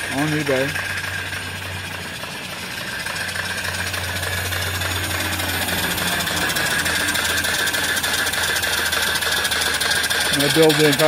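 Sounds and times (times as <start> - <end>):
steam engine chuffing: 0.0 - 11.0
steam hissing: 0.0 - 11.0.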